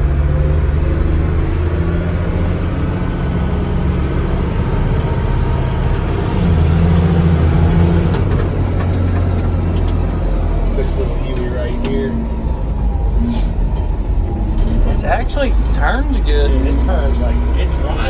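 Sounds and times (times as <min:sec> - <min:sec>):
diesel truck engine drone: 0:00.0 - 0:18.0.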